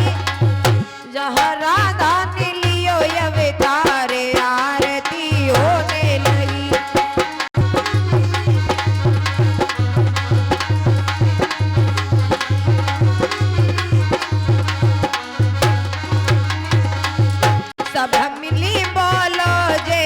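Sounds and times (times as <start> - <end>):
hand drums beating: 0.0 - 20.0.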